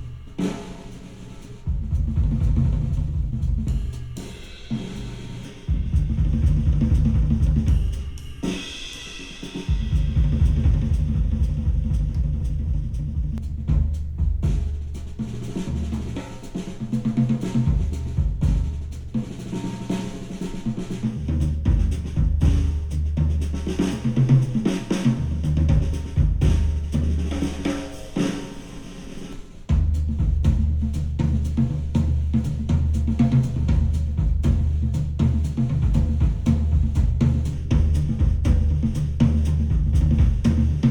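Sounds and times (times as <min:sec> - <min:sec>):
drum kit and heavy bass music: 0:00.0 - 0:16.8, 0:17.4 - 0:40.9.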